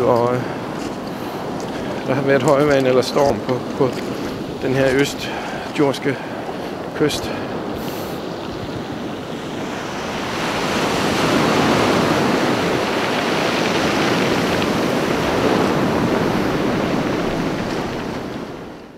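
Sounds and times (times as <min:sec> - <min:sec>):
waves breaking on stony beach: 0:00.0 - 0:18.9.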